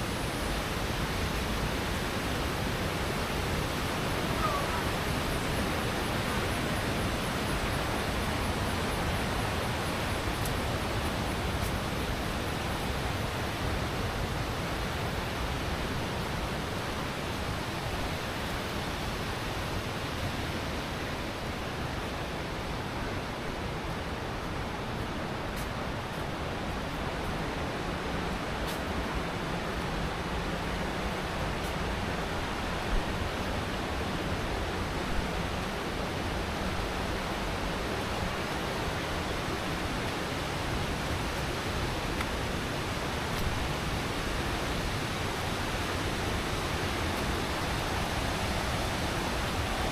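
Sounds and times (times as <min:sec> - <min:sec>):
flowing water rushing: 0:00.0 - 0:49.9.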